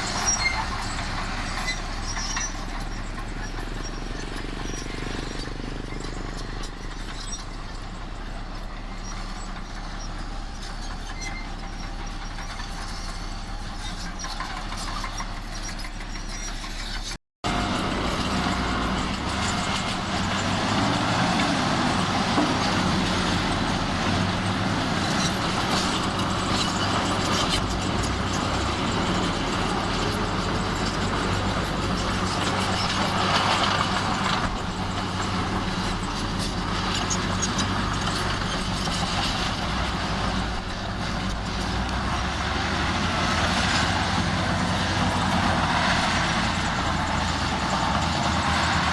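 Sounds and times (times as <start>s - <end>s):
diesel earthmoving machinery running: 0.0s - 48.9s.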